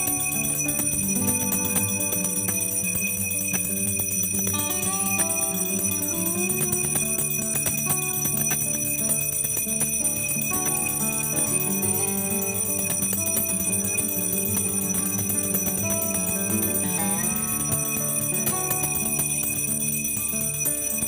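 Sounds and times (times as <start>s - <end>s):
bell ringing: 0.0s - 21.0s
music playing: 0.0s - 21.0s.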